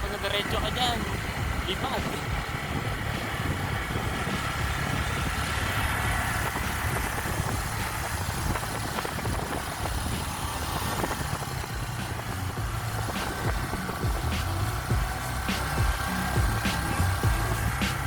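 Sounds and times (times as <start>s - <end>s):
scooter engine hum: 0.0s - 18.0s
wind and road noise: 0.0s - 18.0s.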